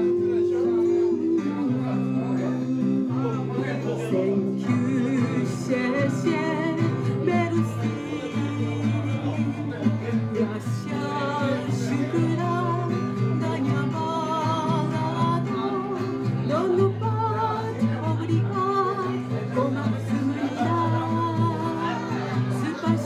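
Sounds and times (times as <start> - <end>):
acoustic guitar: 0.0 - 23.0
woman singing: 0.0 - 23.0.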